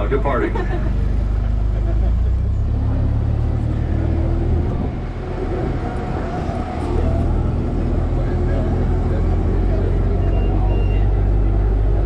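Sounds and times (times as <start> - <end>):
tram engine rumbling: 0.0 - 12.0.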